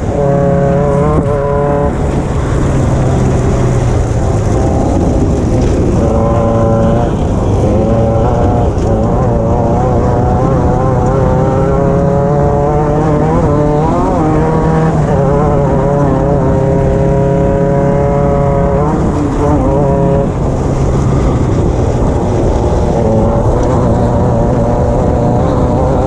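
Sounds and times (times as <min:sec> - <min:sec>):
race car engine running hard: 0:00.0 - 0:26.0.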